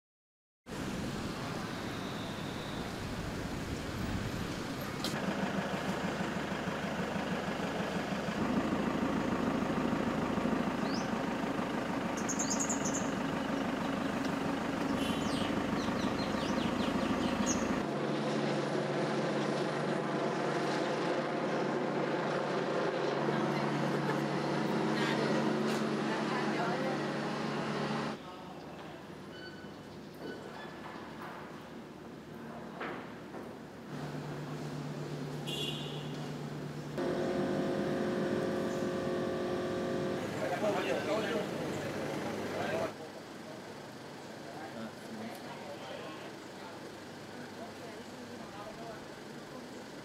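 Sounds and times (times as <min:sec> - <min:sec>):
vehicle engines running: 0:00.7 - 0:28.2, 0:30.8 - 0:50.0.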